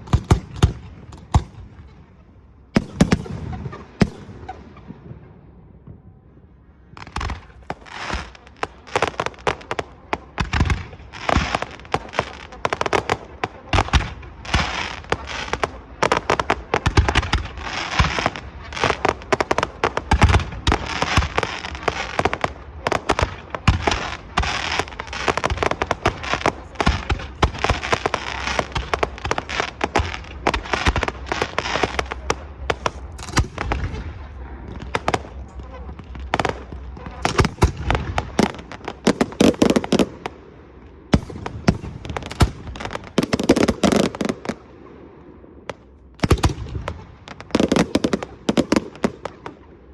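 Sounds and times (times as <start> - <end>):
fireworks bangs and crackling: 0.0 - 49.9
fireworks booms: 0.0 - 49.9.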